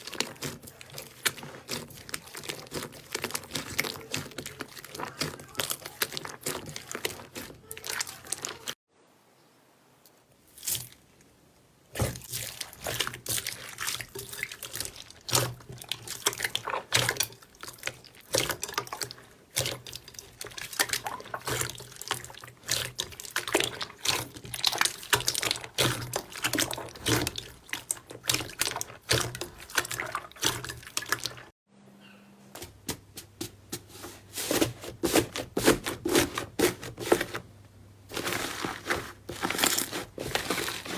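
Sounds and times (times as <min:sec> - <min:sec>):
slime squelching: 0:00.0 - 0:08.8, 0:11.9 - 0:31.5, 0:33.4 - 0:37.5, 0:38.1 - 0:40.9.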